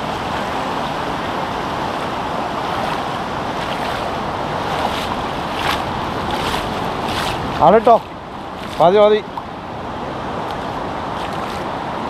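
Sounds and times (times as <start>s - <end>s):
sea surf: 0.0s - 12.0s
wind noise on microphone: 0.0s - 12.0s.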